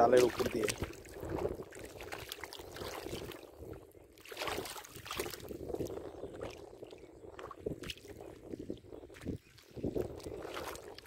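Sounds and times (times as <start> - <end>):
shallow water running over ridges: 0.0 - 11.0.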